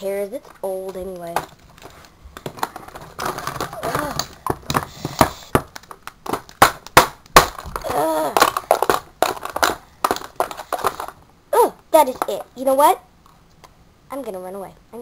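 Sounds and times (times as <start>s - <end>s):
plastic toys clicking and knocking: 0.0s - 11.2s, 12.0s - 13.0s.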